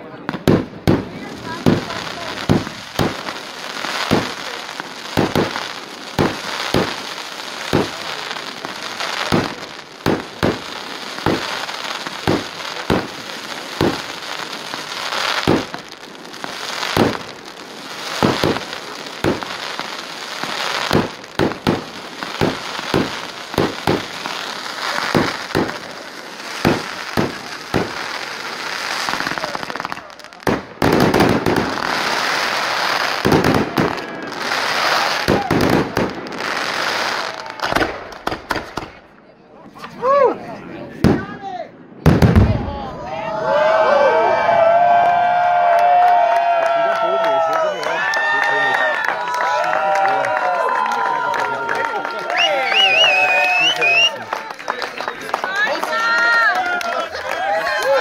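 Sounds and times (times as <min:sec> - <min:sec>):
fireworks crackling: 0:00.0 - 0:40.2, 0:40.8 - 0:58.0.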